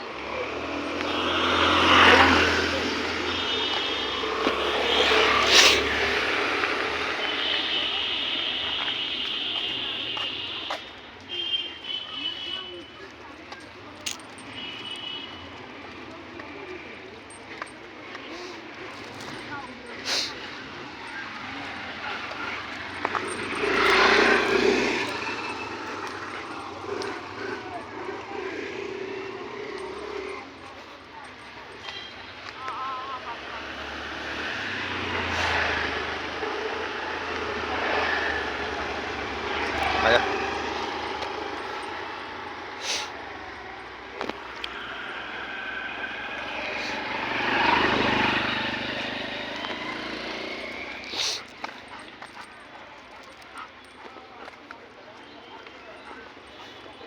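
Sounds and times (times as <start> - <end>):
engine passing by: 0.0 - 10.9, 12.5 - 57.0.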